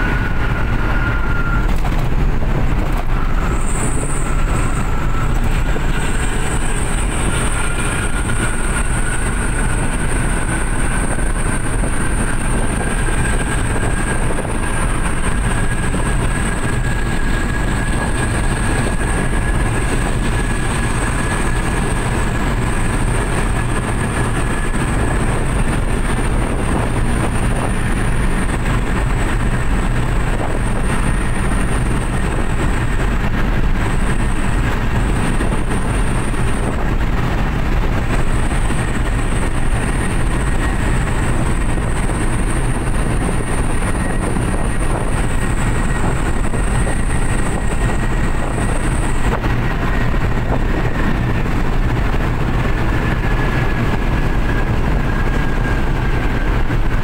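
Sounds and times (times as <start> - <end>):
thin high whine: 0.0 - 53.0
pickup engine drone: 0.0 - 57.0
road and wind noise: 0.0 - 57.0.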